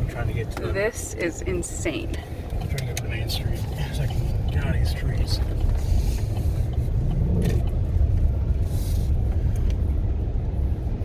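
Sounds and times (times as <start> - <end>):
truck cab rumble in wind: 0.0 - 11.0.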